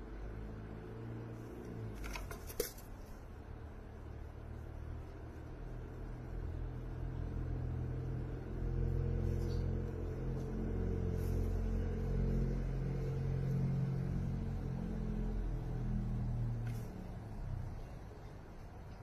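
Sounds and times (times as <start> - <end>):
engine running low rumble: 0.0 - 19.0.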